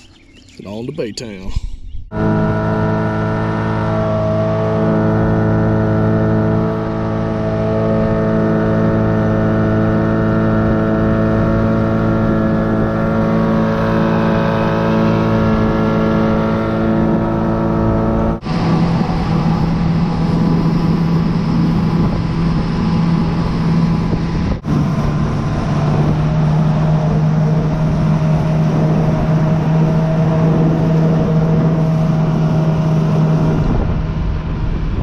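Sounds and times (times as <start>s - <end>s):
outboard motor droning: 2.0s - 35.0s.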